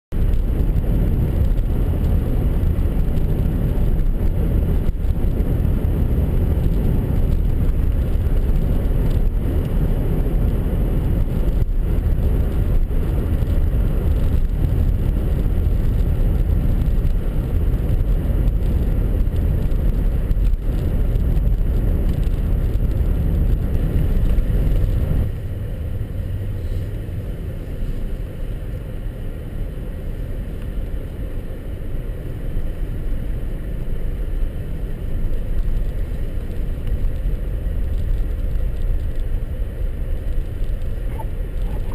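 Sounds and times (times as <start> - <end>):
road and wind noise: 0.1 - 41.9
vehicle driving rumble: 0.1 - 41.9.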